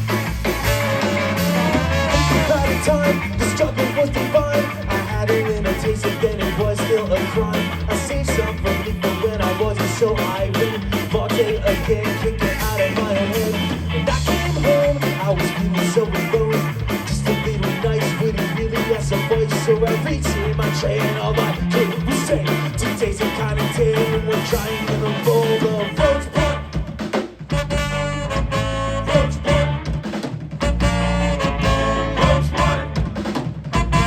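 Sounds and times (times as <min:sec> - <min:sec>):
bass: 0:00.0 - 0:34.0
drums steady beat: 0:00.0 - 0:34.0
electric guitar: 0:00.0 - 0:34.0.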